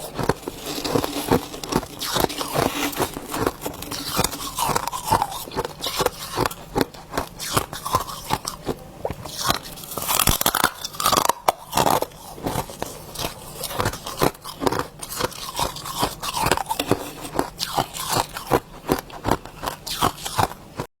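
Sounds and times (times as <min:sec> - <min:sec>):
freezer frost crunching: 0:00.0 - 0:20.9.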